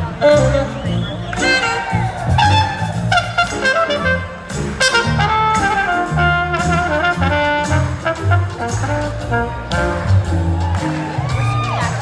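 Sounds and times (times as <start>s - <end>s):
horn section playing melody: 0.0s - 11.0s
bass: 0.0s - 12.0s
drums: 0.0s - 12.0s.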